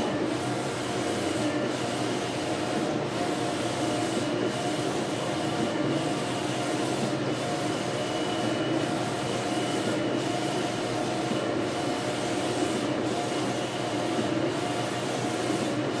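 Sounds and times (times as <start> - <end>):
printer carriage whirring: 0.0 - 16.0.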